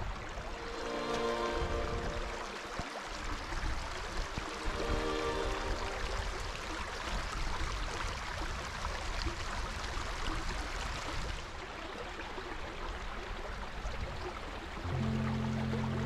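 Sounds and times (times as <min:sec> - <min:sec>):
stream running over rocks: 0:00.0 - 0:16.0.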